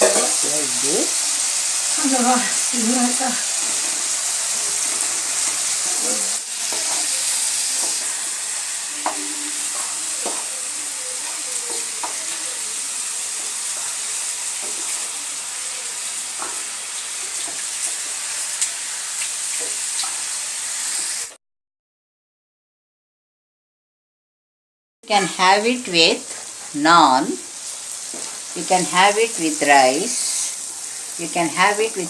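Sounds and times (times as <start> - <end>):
meat sizzling in oil: 0.0 - 21.4, 25.1 - 32.0.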